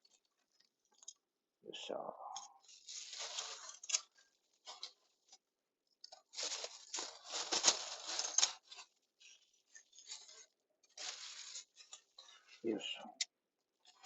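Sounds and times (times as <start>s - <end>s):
pinecones rustling and crackling: 2.4s - 14.0s.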